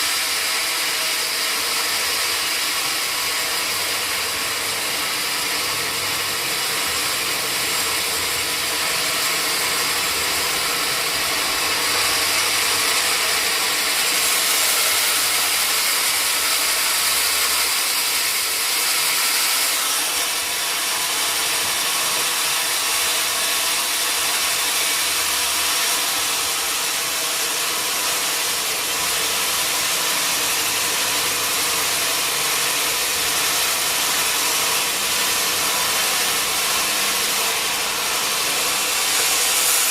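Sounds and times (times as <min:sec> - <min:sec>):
sawmill saw hissing: 0:00.0 - 0:39.9.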